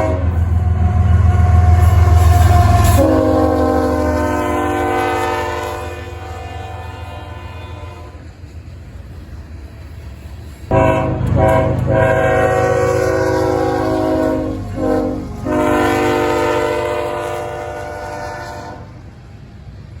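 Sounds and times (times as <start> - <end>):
locomotive horn blasts: 0.0 - 8.3, 10.7 - 19.0
train rumbling on rails: 0.0 - 20.0.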